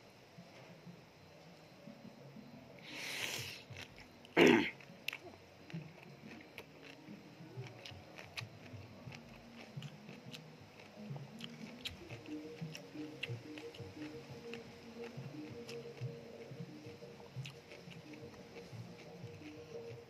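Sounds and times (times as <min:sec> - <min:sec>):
chewing clicks: 0:03.4 - 0:20.0.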